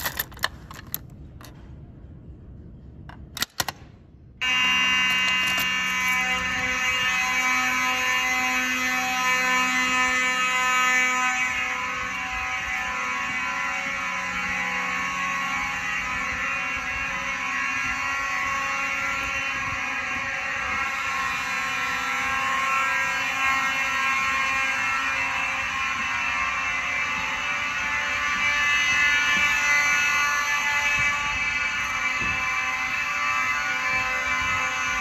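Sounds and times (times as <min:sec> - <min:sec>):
fire alarm horns sounding: 0:04.4 - 0:35.0.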